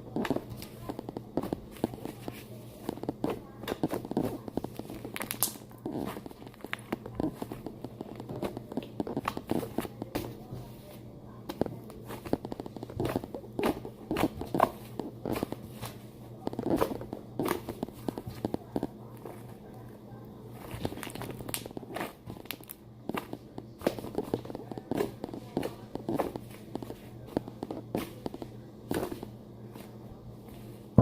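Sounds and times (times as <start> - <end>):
slime squelching and crackling: 0.0 - 29.9.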